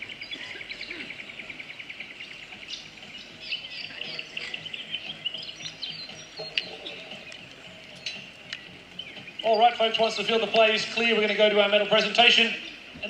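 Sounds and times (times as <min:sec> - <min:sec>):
birds chirping: 0:00.0 - 0:13.0
high ticking bird notes: 0:00.0 - 0:13.0.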